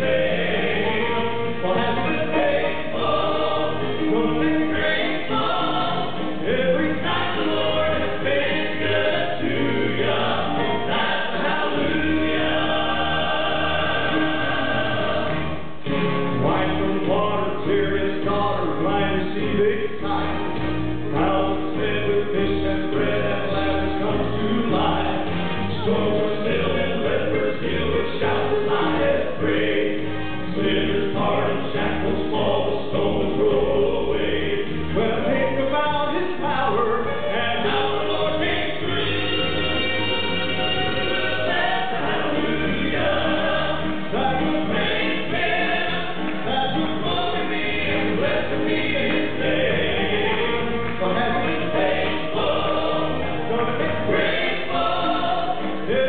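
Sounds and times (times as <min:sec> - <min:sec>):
male quartet singing in harmony: 0:00.0 - 0:56.0.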